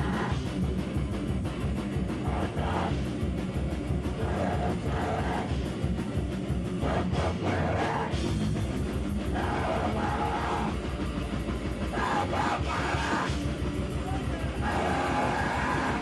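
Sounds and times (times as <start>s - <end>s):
live heavy rock band: 0.0s - 16.0s.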